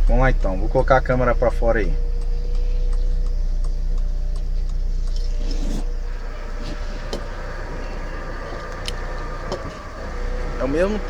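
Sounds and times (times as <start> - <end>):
car engine low rumble: 0.0 - 11.0
light regular ticking: 0.0 - 11.0
sharp clicks: 0.8 - 10.0.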